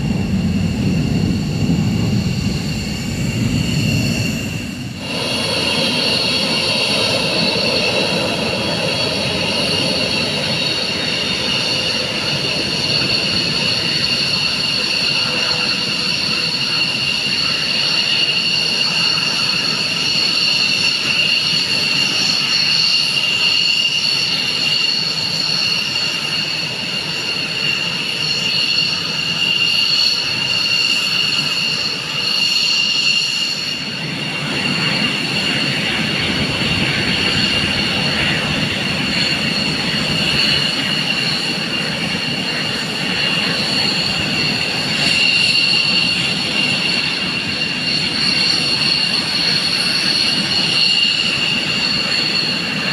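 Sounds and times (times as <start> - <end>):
jet engines whining: 0.0 - 52.9
rush of engine noise: 0.0 - 52.9.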